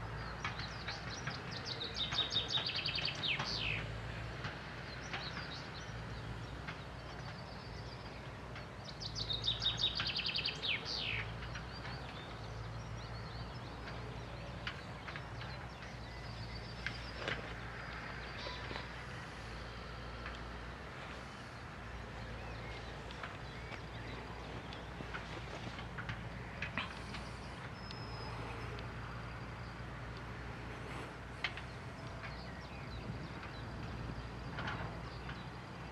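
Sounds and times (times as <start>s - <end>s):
low engine hum: 0.0s - 35.9s
songbird singing: 0.0s - 35.9s.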